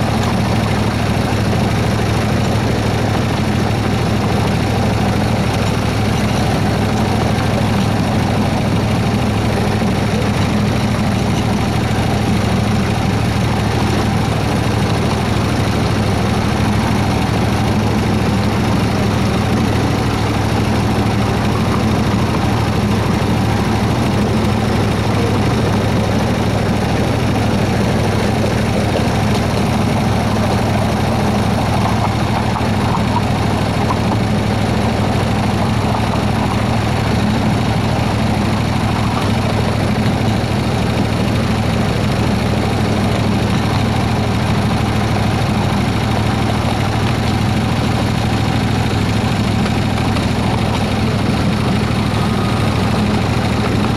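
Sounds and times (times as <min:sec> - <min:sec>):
locomotive engine low hum: 0:00.0 - 0:53.9.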